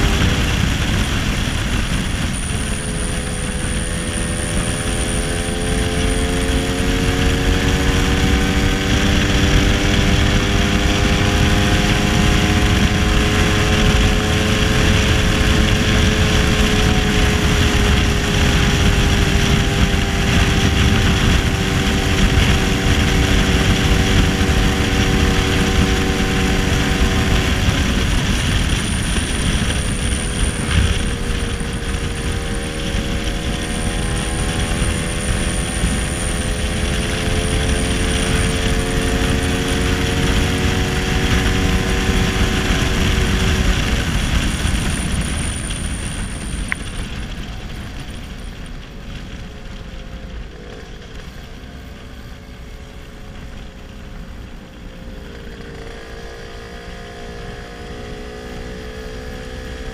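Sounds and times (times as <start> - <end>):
scooter engine running: 0.0 - 59.9
wind rushing over microphone: 0.0 - 59.9.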